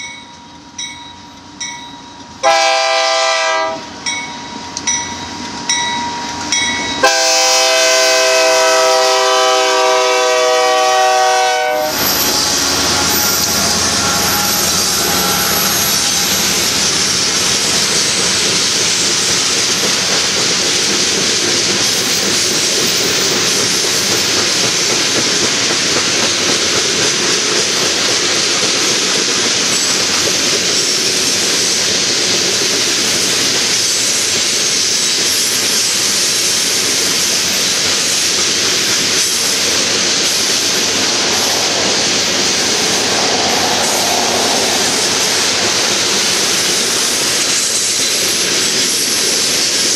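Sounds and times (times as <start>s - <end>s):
diesel locomotives passing: 0.0s - 49.9s
freight train rolling past: 0.0s - 49.9s
steel wheels on rails: 0.0s - 49.9s.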